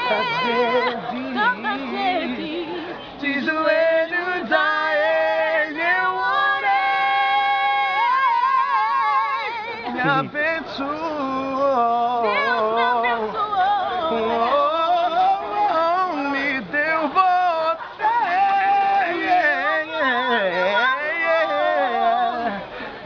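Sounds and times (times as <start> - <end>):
woman and man singing: 0.0 - 23.0.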